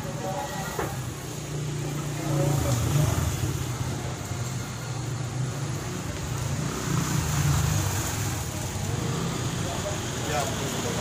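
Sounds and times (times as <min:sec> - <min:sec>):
motorbike passing: 0:00.0 - 0:11.0.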